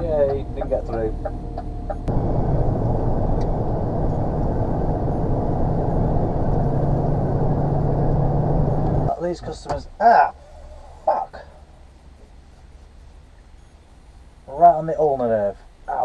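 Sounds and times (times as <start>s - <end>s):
engine and road rumble: 0.0s - 16.0s
low steady hum: 0.0s - 16.0s.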